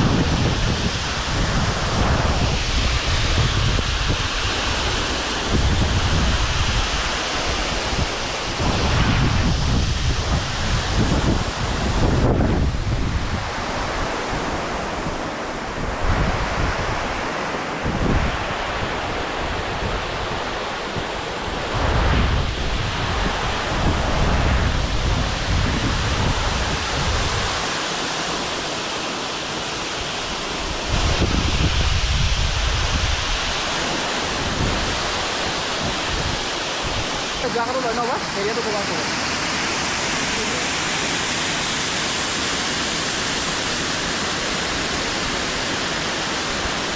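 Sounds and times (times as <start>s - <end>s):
wind buffeting microphone: 0.0s - 27.8s, 30.0s - 45.8s
waterfall roaring: 0.0s - 46.9s.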